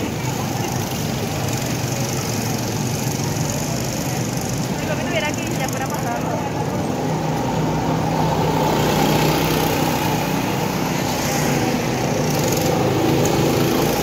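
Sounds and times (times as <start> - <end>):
go-kart engines running: 0.0 - 14.0.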